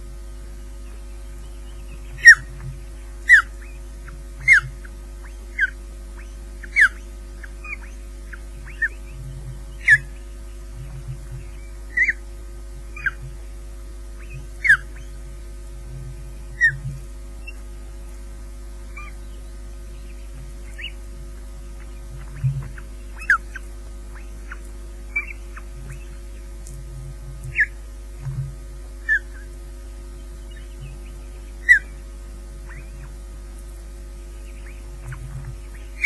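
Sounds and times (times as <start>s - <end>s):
electrical hum: 0.0s - 36.0s
ospreys chirping: 0.1s - 15.6s, 16.2s - 26.7s, 27.4s - 27.9s, 29.0s - 36.0s.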